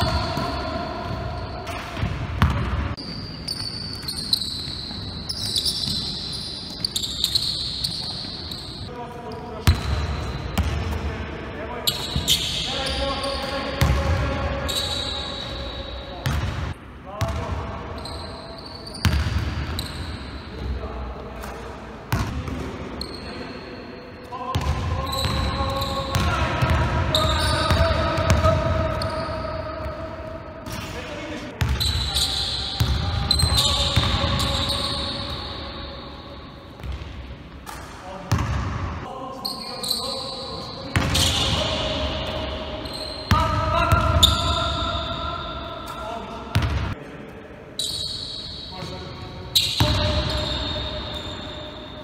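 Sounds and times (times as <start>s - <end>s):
sneakers squealing on court: 0.0s - 10.9s, 11.8s - 16.6s, 18.0s - 20.8s, 22.1s - 30.0s, 31.6s - 37.1s, 39.4s - 47.0s, 47.8s - 52.0s.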